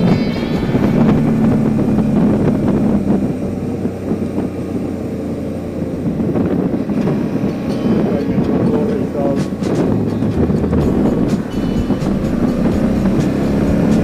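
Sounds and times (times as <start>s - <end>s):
motorcycle engine running: 0.0s - 14.0s
road noise: 0.0s - 14.0s
wind rushing over microphone: 0.0s - 14.0s.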